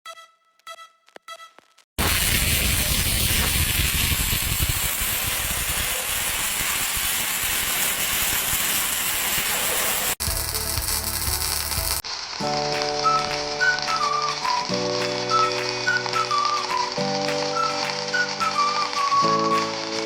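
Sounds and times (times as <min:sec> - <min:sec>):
welding arc hiss and crackle: 0:02.0 - 0:20.0.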